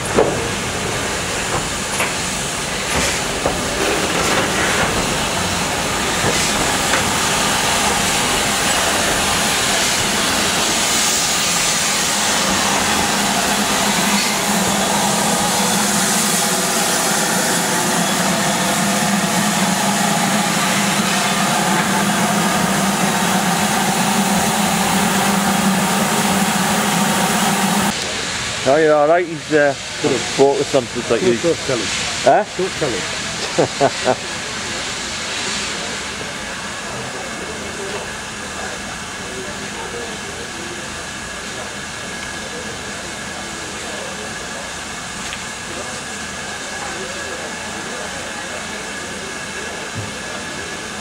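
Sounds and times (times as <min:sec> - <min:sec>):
steam hissing from locomotive: 0:00.0 - 0:51.0.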